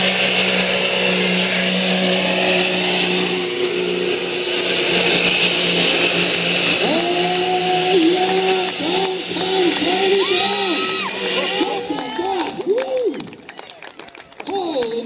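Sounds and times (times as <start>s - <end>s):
higher wavering tone: 0.0s - 12.2s
diesel engine running flat out: 0.0s - 15.0s.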